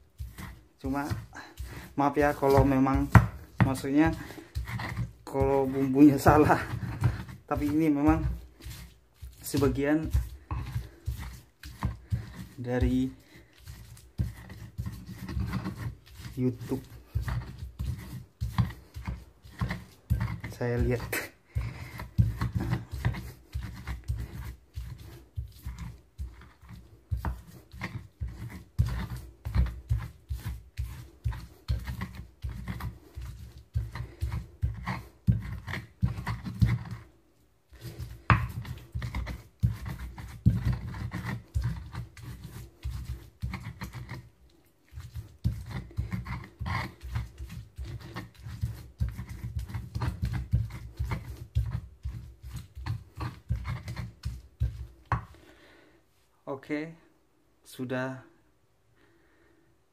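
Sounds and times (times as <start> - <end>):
pestle pounding in mortar: 0.0 - 37.1, 37.8 - 55.4.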